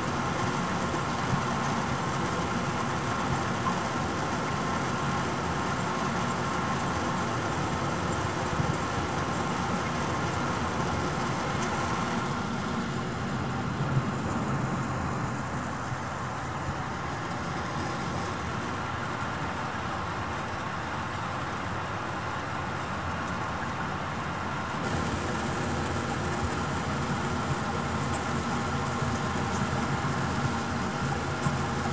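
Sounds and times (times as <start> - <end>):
airliner cabin engine hum: 0.0 - 20.5, 23.8 - 31.9.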